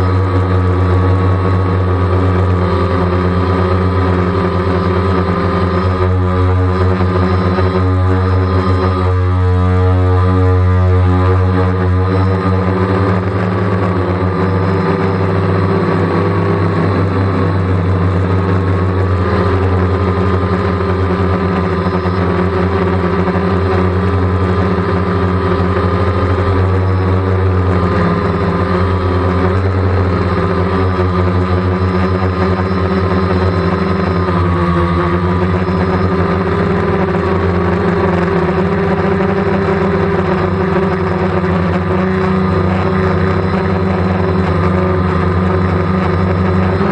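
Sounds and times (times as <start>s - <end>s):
drone motors humming: 0.0s - 46.9s.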